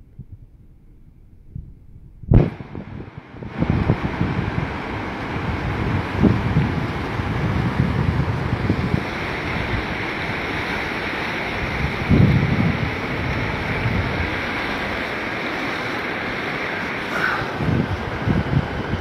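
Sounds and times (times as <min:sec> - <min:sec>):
wind buffeting microphone: 0:00.0 - 0:19.0
rushing floodwater: 0:02.4 - 0:19.0.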